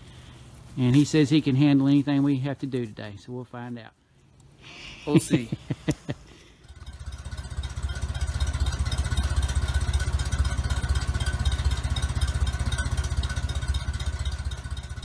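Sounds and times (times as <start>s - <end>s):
tractor engine idling: 0.0s - 3.0s, 5.3s - 15.0s.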